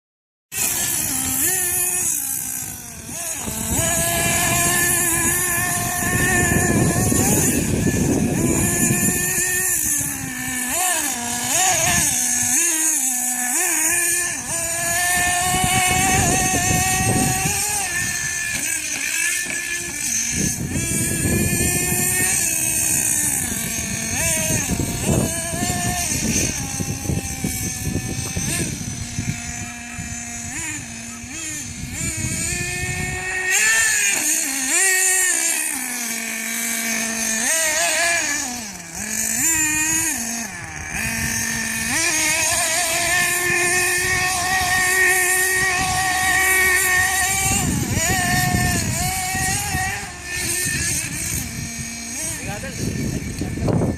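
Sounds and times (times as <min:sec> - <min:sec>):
nitro engine revving: 0:00.5 - 0:53.9.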